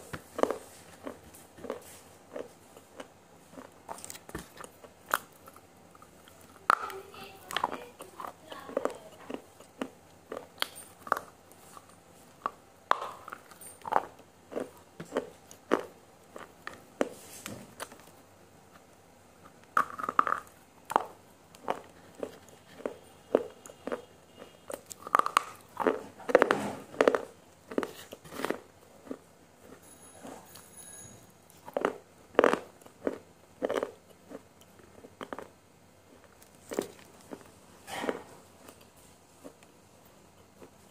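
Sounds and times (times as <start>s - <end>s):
person chewing noodles: 0.0s - 30.5s, 31.5s - 40.9s.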